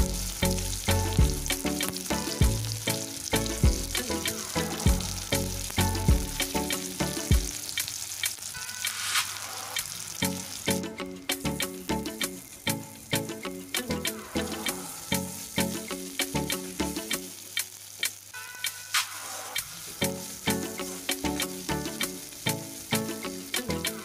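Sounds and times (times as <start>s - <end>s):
onions sizzling in hot oil: 0.0s - 13.3s, 14.2s - 23.9s
background music with steady beat: 0.0s - 24.0s.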